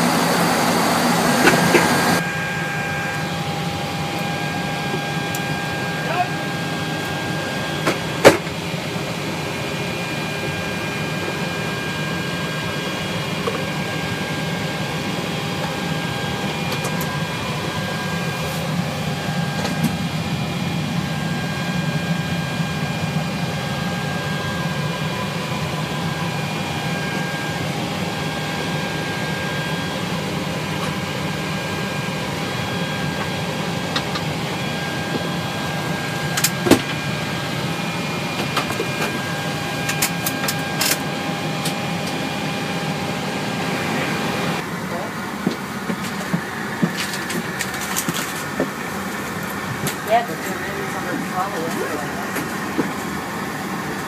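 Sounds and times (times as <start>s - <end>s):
rushing cooling airflow: 0.0s - 54.0s
steady high whine: 0.0s - 54.0s.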